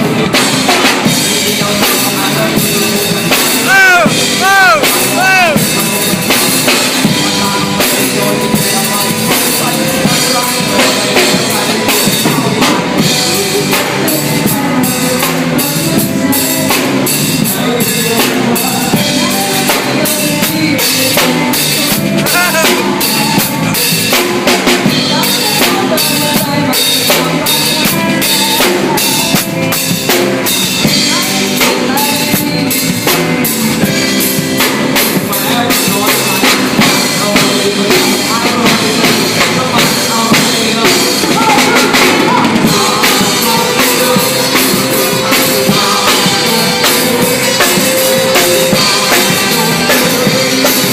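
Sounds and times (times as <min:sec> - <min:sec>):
backing song: 0:00.0 - 0:50.9
drum kit playing a steady beat: 0:00.0 - 0:50.9.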